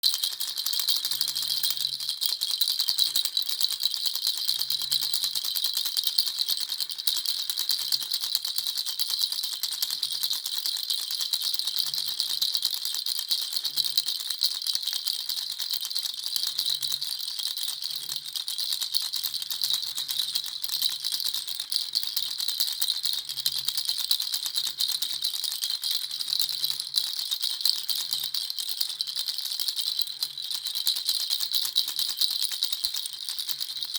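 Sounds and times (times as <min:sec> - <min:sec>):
baby's rattle shaken: 0:00.0 - 0:33.9.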